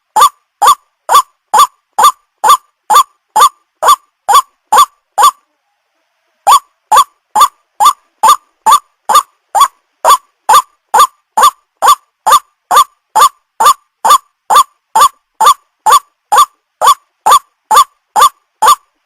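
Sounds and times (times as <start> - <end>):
waterhen calling: 0.2 - 5.4, 6.5 - 18.9.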